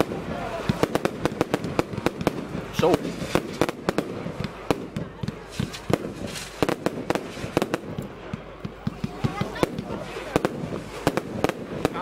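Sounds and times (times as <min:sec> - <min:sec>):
fireworks banging and popping: 0:00.0 - 0:12.0
fireworks hissing: 0:00.0 - 0:12.0.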